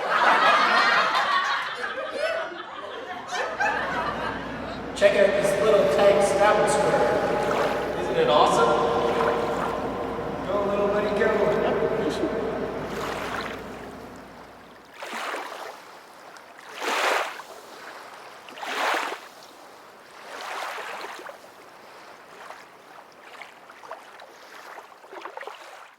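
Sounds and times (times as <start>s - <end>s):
water washing in swells: 5.0s - 25.9s.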